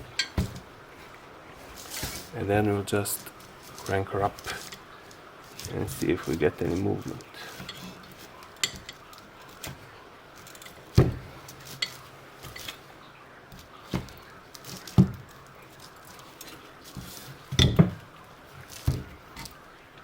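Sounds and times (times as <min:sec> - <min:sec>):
metallic clinks and knocks: 0:00.0 - 0:00.7, 0:03.2 - 0:12.9, 0:13.6 - 0:19.6.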